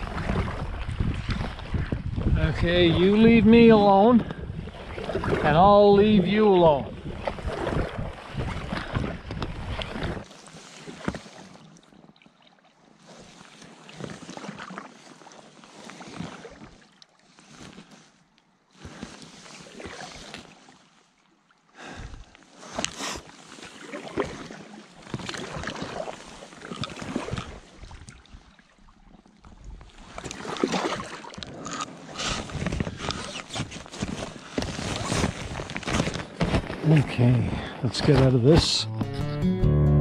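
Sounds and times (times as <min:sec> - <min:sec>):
water splashing from canoe paddling: 0:00.0 - 0:38.9.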